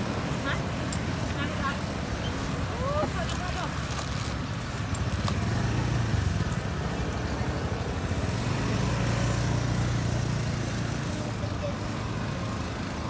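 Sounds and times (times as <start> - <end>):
traffic engines humming: 0.0 - 13.0.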